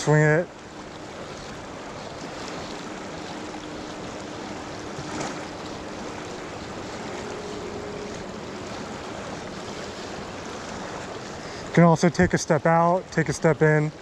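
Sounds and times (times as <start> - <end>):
river rushing over riffle: 0.0 - 11.9.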